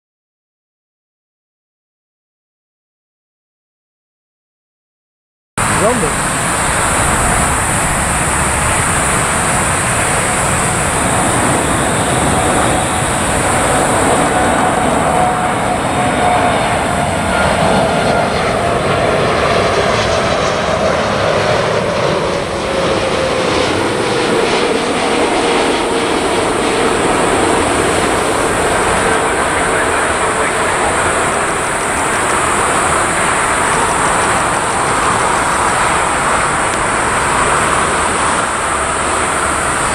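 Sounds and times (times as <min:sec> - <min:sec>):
jet aircraft passing overhead: 0:05.6 - 0:39.9.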